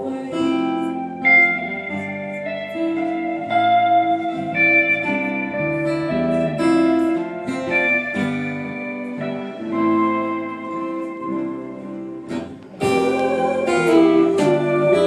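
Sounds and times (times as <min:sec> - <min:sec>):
live band guitars playing: 0:00.0 - 0:15.0.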